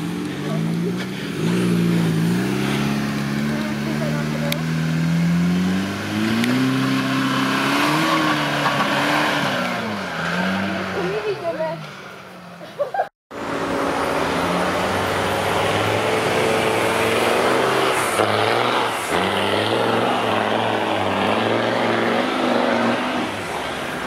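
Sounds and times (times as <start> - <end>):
off-road vehicle engine revving: 0.0 - 12.6, 13.4 - 24.0.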